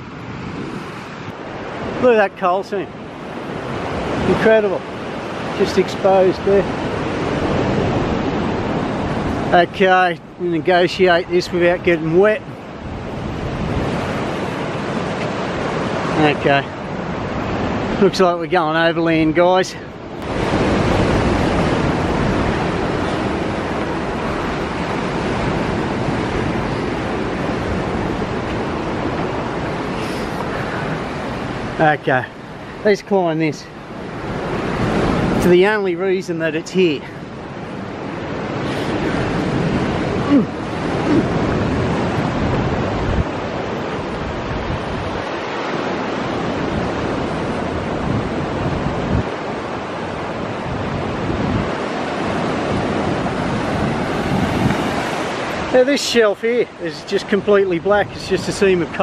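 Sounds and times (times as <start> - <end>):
surf rushing on shore: 0.0 - 59.0
wind on microphone: 2.7 - 18.1, 19.2 - 32.8, 33.6 - 35.6, 37.0 - 55.9.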